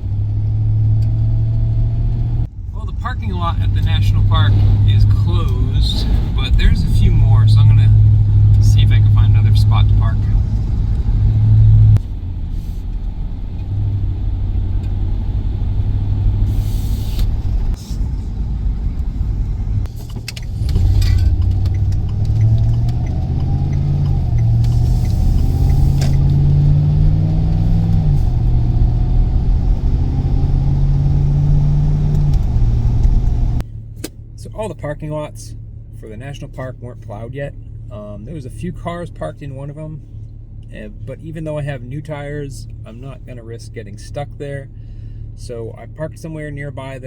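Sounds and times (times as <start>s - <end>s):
road noise: 0.0s - 45.4s
van engine accelerating: 0.0s - 46.2s.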